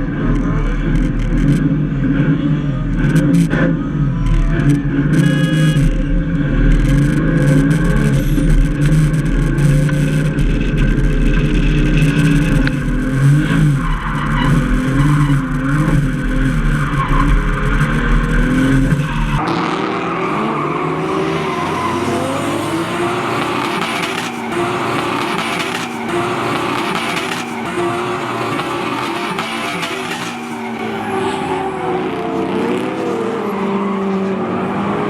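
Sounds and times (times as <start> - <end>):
car engines revving: 0.0 - 35.0
tyres skidding: 4.5 - 35.0.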